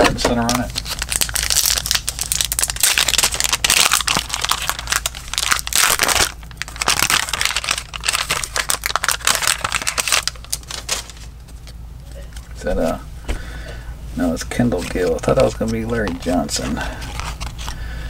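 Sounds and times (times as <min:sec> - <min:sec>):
wrapper crinkling: 0:00.0 - 0:11.8, 0:14.8 - 0:17.8.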